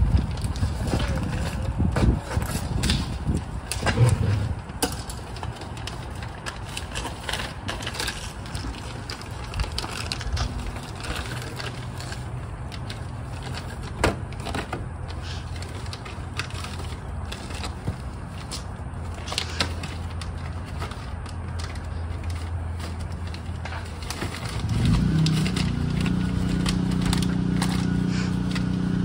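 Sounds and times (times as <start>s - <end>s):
plastic sheeting crinkling: 0.0s - 29.0s.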